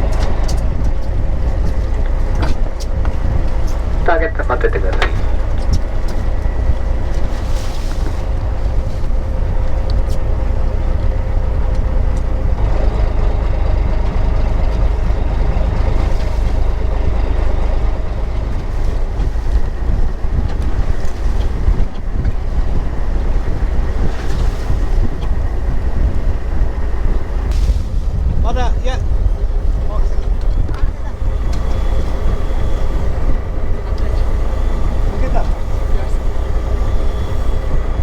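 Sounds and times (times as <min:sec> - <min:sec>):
boat engine rumbling: 0:00.0 - 0:38.0
wind buffeting microphone: 0:00.0 - 0:38.0.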